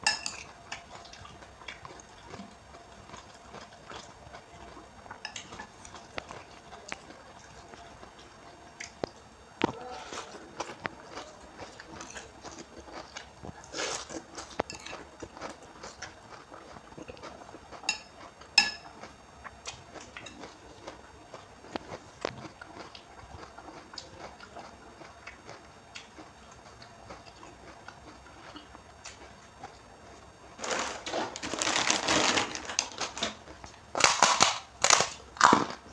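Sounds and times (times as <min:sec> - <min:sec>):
wet chewing and crunching: 0:00.3 - 0:29.8, 0:30.6 - 0:35.9.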